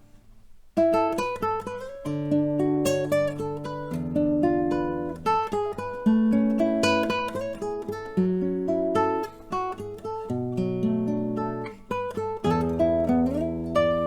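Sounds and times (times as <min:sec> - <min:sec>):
nylon-string guitar chords: 0:00.8 - 0:14.0.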